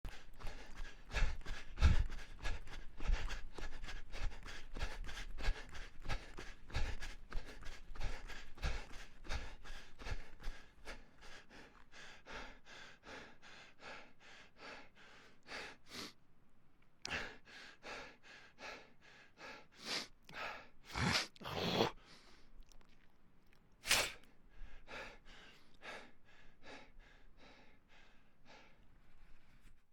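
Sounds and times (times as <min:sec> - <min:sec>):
person panting: 0:00.0 - 0:16.2, 0:17.1 - 0:22.5, 0:24.0 - 0:29.5.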